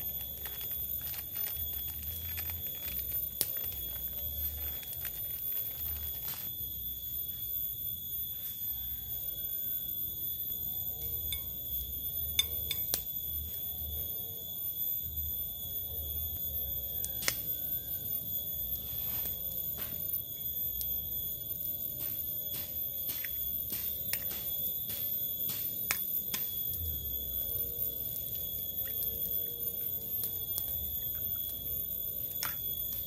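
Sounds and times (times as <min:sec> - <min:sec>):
steady high-pitched whine: 0:00.0 - 0:33.0.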